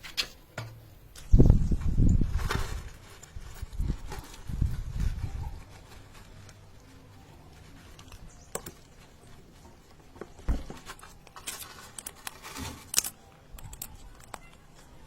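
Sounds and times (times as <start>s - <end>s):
plastic crackling and scraping: 1.2s - 15.0s.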